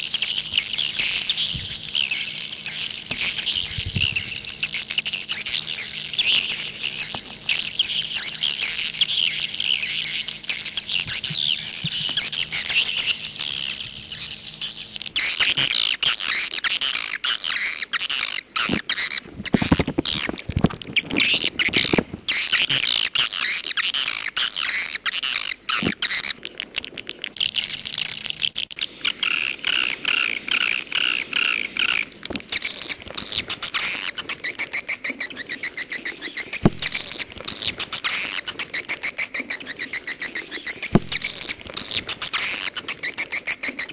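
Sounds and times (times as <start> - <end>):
swiftlets twittering: 0.0 - 19.2, 26.8 - 43.9.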